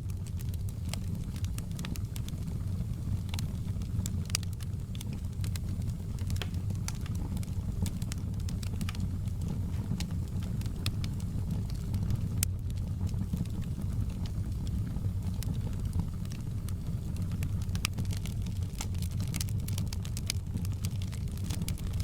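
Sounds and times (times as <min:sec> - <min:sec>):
low rumble of burning: 0:00.0 - 0:22.0
wood fire crackling: 0:00.0 - 0:22.0.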